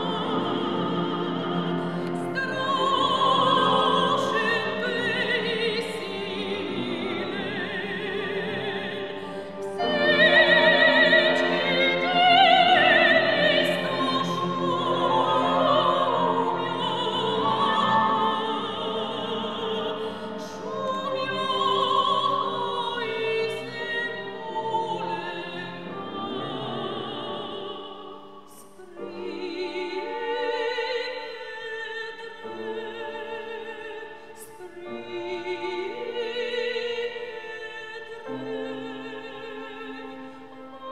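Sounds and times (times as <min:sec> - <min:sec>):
cello: 0:00.0 - 0:40.9
piano: 0:00.0 - 0:40.9
sopranos singing with vibrato: 0:00.0 - 0:40.9.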